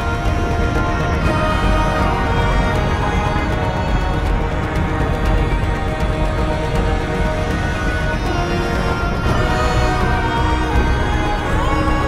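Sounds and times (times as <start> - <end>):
background music with sustained notes: 0.0 - 12.0.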